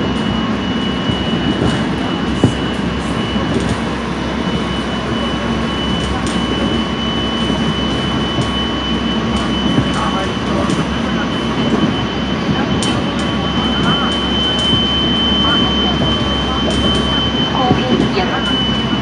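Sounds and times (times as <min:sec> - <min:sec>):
thin high whine: 0:00.0 - 0:19.0
train wheels rumbling on rail: 0:00.0 - 0:19.0.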